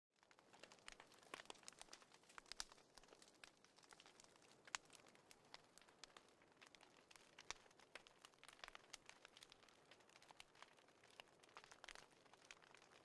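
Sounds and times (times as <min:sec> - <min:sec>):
wood fire crackling: 0:00.1 - 0:13.0.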